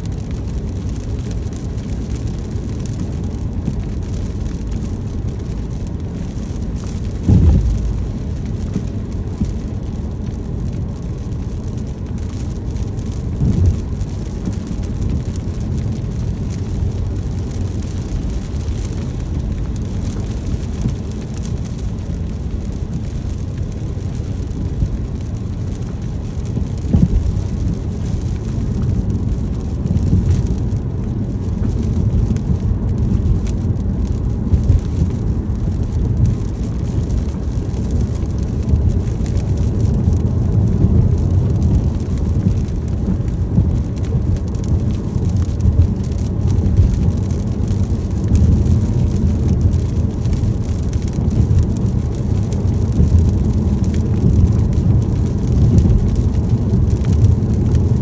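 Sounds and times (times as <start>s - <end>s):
car road and engine rumble: 0.0s - 58.0s
raindrops pattering on car: 0.0s - 58.0s.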